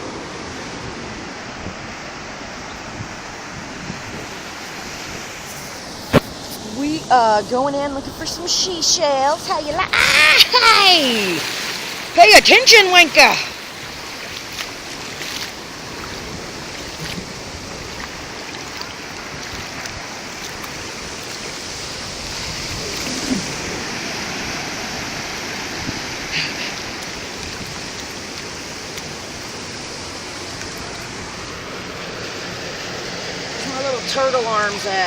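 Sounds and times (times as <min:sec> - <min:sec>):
ocean surf washing onto beach: 0:00.0 - 0:35.0.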